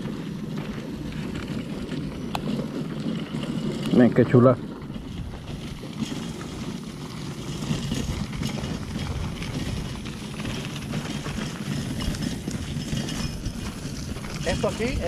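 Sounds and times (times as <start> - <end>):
cart wheels rattling over dirt: 0.0 - 15.0
footsteps on dirt path: 0.0 - 15.0.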